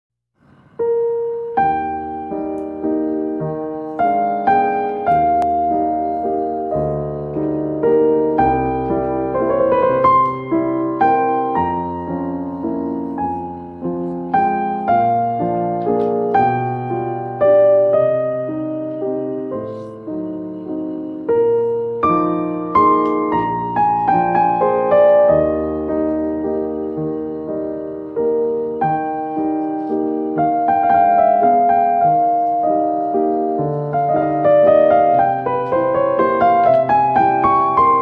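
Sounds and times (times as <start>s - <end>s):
soft piano music: 0.4s - 38.0s.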